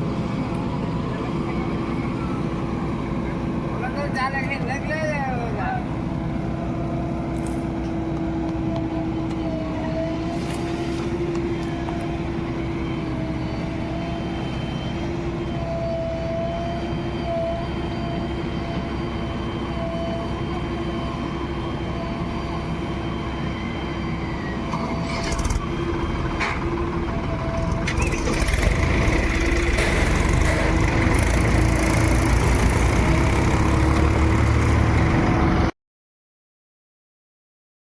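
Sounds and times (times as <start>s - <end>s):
heavy diesel engine running: 0.0s - 35.7s.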